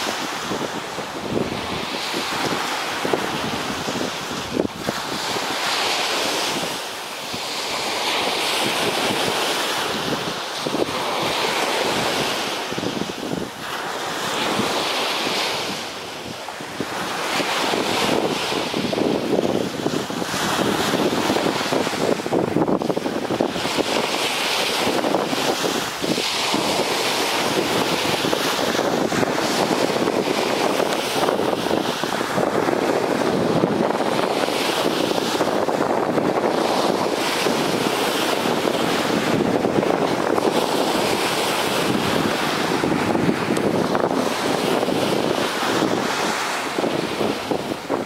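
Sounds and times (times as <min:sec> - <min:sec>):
surf washing up beach: 0:00.0 - 0:48.0
wind buffeting microphone: 0:00.0 - 0:48.0.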